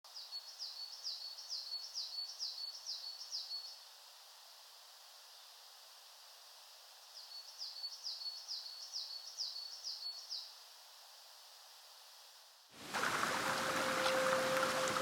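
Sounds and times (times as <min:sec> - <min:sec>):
faint steady hiss: 0:00.1 - 0:15.0.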